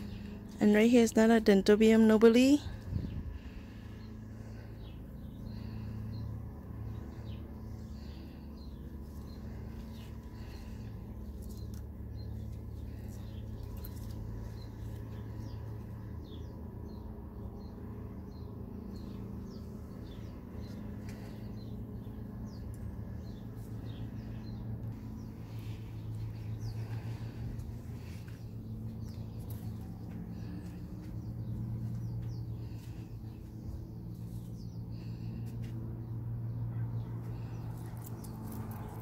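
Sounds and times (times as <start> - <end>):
small birds chirping: 0.0 - 39.0
steady low hum: 0.0 - 39.0.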